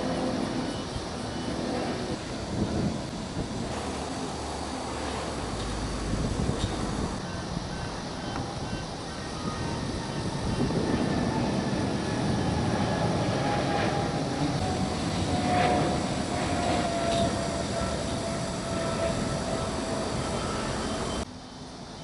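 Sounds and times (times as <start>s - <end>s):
jet engines roaring: 0.0s - 21.3s.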